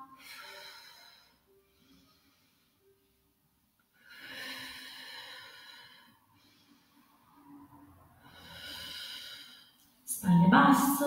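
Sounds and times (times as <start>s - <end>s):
woman breathing: 0.0s - 10.1s.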